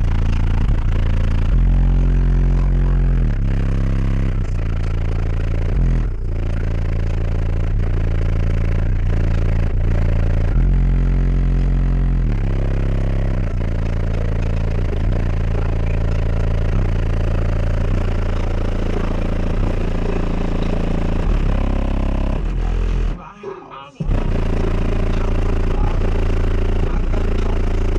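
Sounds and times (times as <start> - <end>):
loud bass-heavy music: 0.0 - 27.9.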